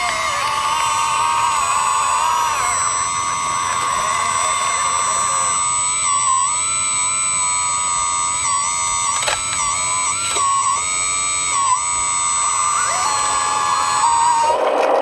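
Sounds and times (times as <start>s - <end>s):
short clicks: 0.0s - 14.7s
electric hydraulic pump whine: 0.0s - 15.0s.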